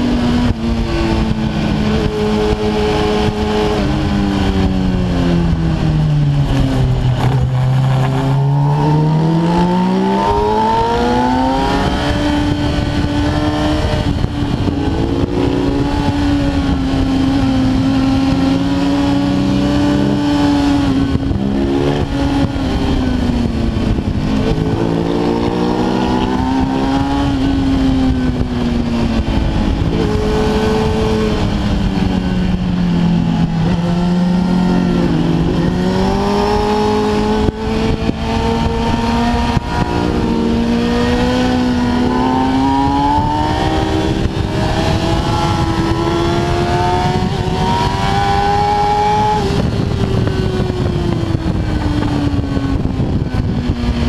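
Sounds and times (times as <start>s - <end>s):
motorcycle engine at high revs: 0.0s - 54.0s
wind rush: 0.0s - 54.0s.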